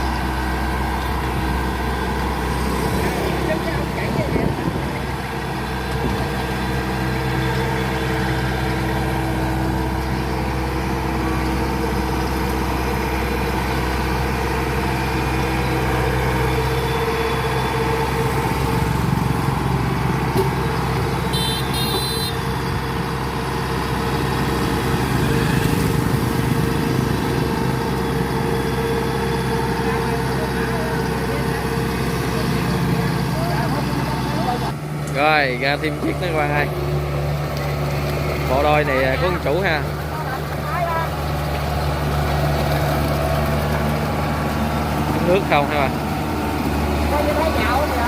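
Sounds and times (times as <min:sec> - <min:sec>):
combine harvester diesel engine: 0:00.0 - 0:48.0.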